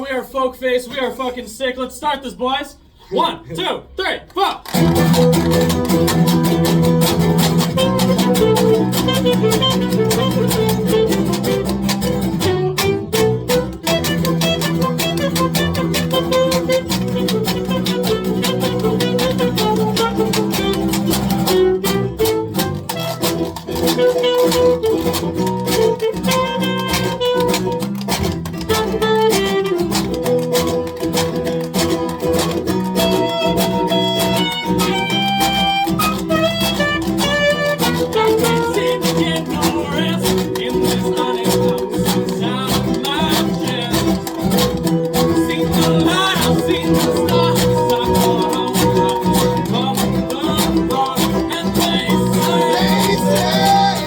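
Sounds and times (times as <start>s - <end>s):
live folk band playing: 4.6s - 54.0s
strummed guitar: 4.6s - 54.0s.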